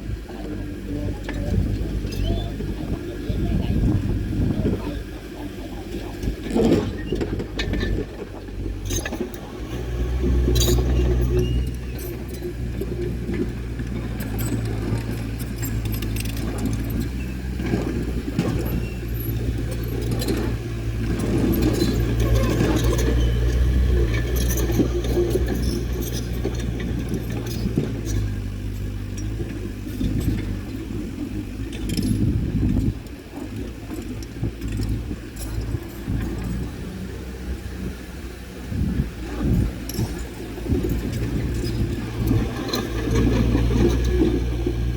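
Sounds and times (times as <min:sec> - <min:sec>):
bulldozer diesel engine: 0:00.0 - 0:44.9
metal tracks clinking and rattling: 0:01.1 - 0:44.9.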